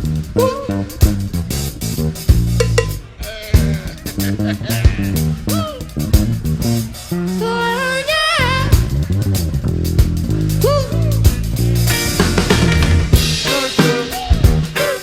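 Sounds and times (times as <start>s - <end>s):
electric bass: 0.0s - 15.0s
electric guitar bent notes: 0.0s - 15.0s
drum hits: 1.0s - 7.2s, 8.8s - 15.0s.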